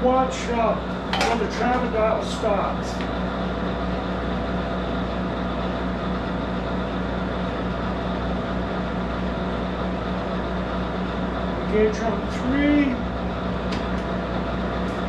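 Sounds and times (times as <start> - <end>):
lathe running with even hum: 0.0 - 15.0.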